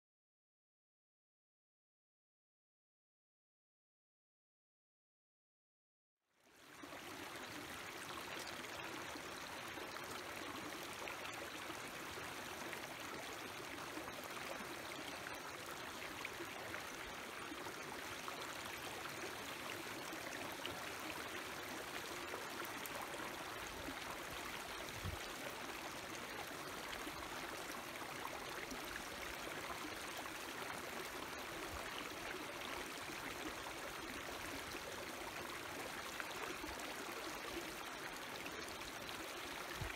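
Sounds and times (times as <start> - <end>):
stream running over rocks: 6.7 - 39.9.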